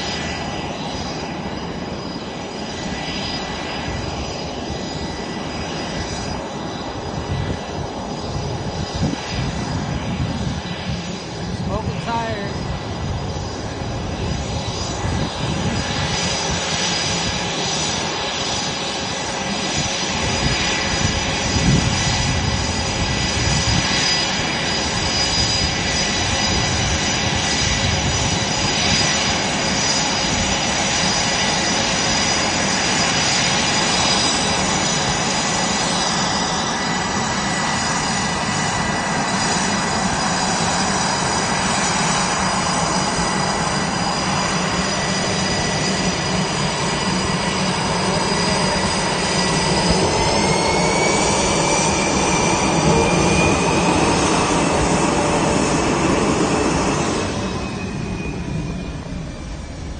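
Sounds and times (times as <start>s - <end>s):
jet engines rumbling with high whine: 0.0s - 59.9s.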